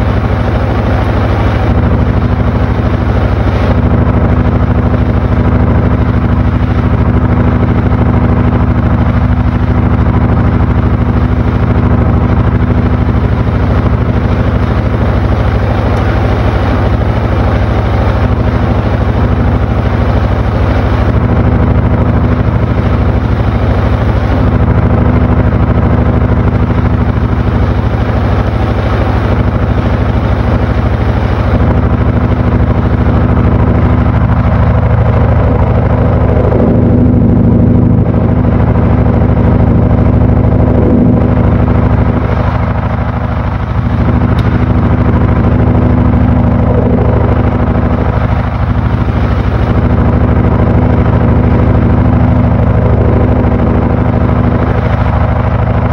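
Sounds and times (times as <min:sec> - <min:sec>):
washing machine motor hum: 0:00.0 - 0:55.9
washing machine whir: 0:00.0 - 0:55.9.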